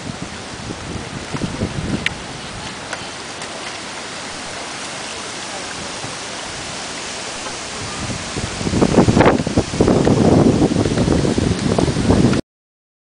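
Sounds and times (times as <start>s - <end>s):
floodwater rushing: 0.0s - 12.4s
low rumbling: 0.0s - 12.4s.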